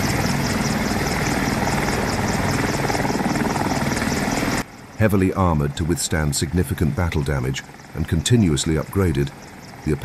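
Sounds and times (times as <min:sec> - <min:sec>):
helicopter engines and rotor beat: 0:00.0 - 0:10.0.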